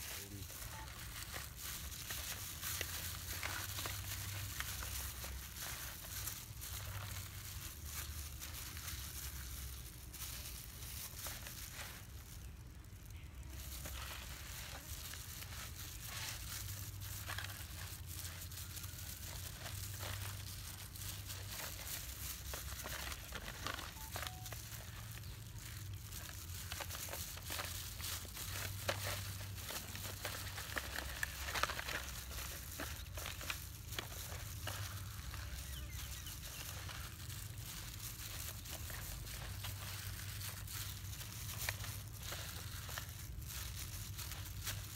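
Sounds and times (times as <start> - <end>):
plastic glove crinkling: 0.0 - 44.9.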